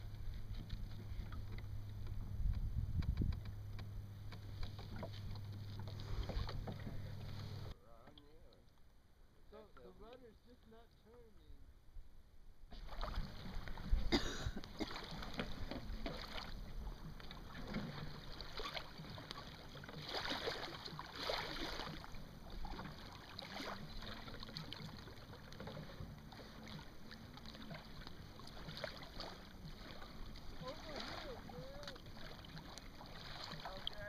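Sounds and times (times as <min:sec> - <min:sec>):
water splashing against hull: 0:00.0 - 0:07.7, 0:12.7 - 0:34.0.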